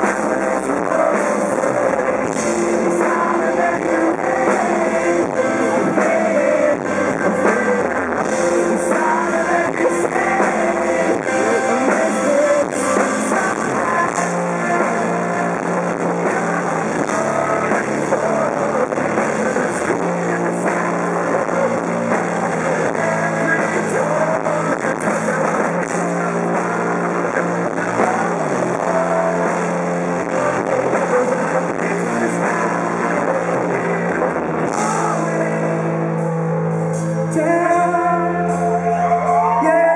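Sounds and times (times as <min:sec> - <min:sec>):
bass guitar: 0:00.0 - 0:39.9
distorted electric guitars: 0:00.0 - 0:39.9
drums: 0:00.0 - 0:39.9
person singing: 0:00.0 - 0:39.9.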